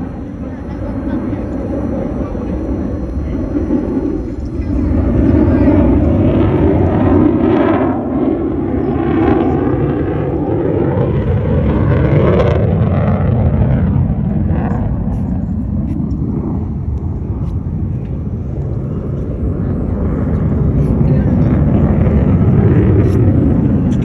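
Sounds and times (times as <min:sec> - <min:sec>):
jet aircraft rumble: 0:00.0 - 0:24.0.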